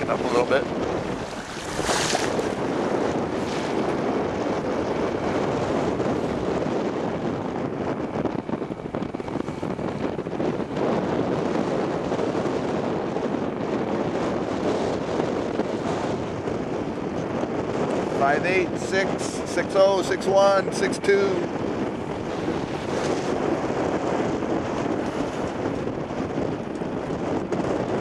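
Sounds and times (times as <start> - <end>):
water rushing along hull: 0.0 - 28.0
wind buffeting microphone: 0.0 - 28.0.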